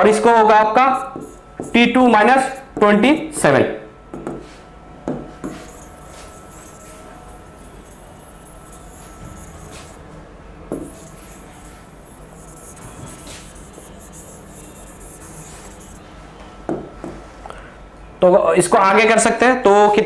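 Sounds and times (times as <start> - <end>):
low room hiss and hum: 0.0 - 20.0.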